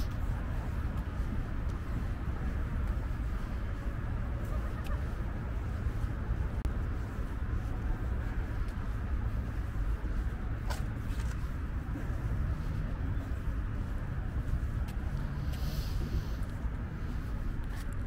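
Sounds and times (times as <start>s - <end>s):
faint distant traffic: 0.0s - 18.0s.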